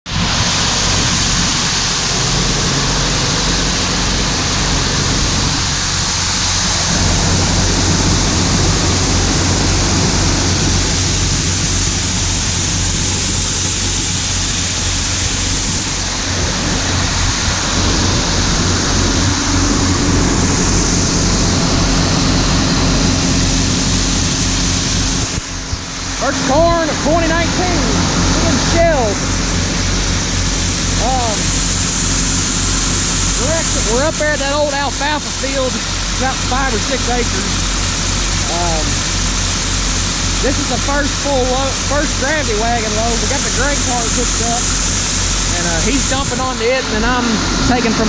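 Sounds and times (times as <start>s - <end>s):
machinery engine hum: 0.0s - 48.0s
loud rushing noise: 0.1s - 48.0s.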